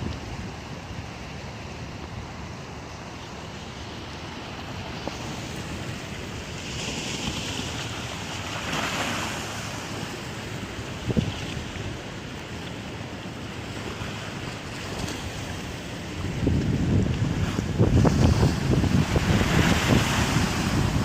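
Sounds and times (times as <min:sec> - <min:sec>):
wind rumbling on microphone: 0:00.0 - 0:12.3, 0:13.5 - 0:21.0
waves breaking on shore: 0:00.0 - 0:21.0.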